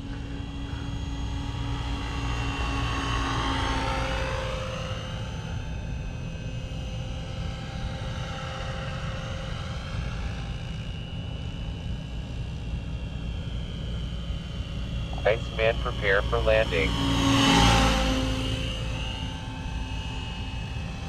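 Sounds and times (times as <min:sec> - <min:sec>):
model helicopter motor whine: 0:00.0 - 0:15.1, 0:16.9 - 0:21.0.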